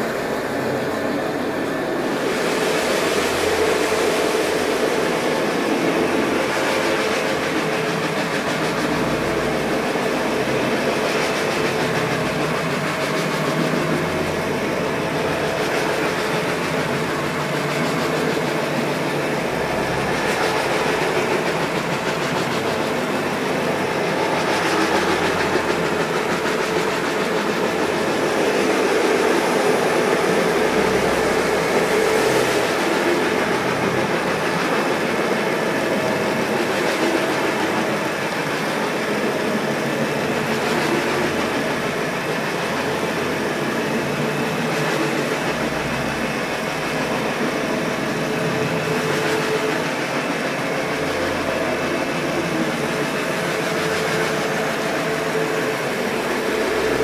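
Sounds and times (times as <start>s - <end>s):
carpet scrubbing machine running: 0.0s - 57.0s.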